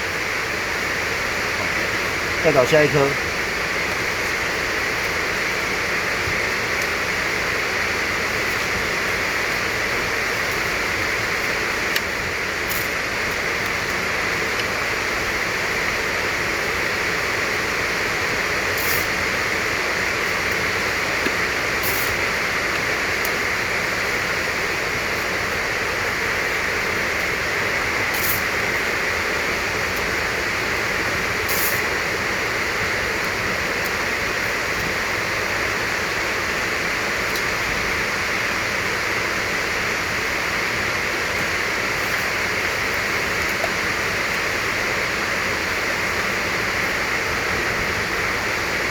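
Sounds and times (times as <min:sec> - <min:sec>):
steady rushing hiss: 0:00.0 - 0:48.9.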